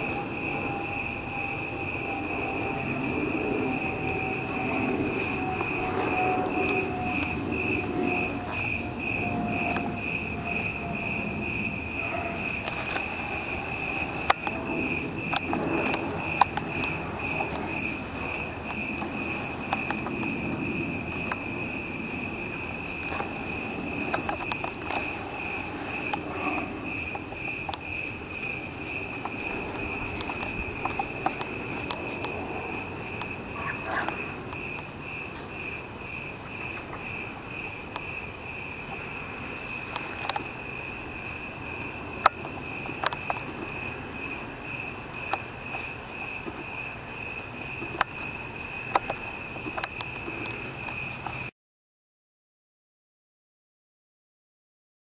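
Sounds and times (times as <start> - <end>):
cricket chirping: 0.0 - 51.5.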